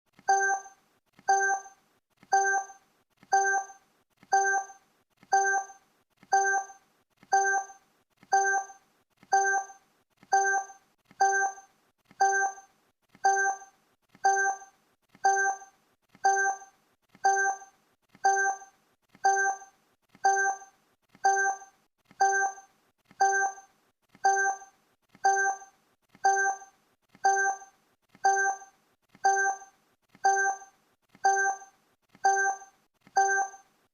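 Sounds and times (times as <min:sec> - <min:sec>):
countdown timer blips: 0:00.2 - 0:33.7.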